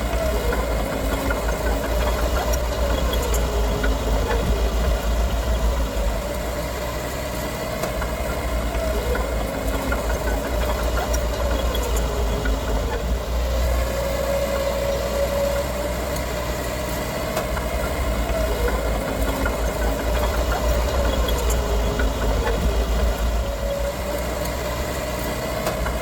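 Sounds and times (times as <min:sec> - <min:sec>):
diesel engine rumbling with whine: 0:00.0 - 0:26.0.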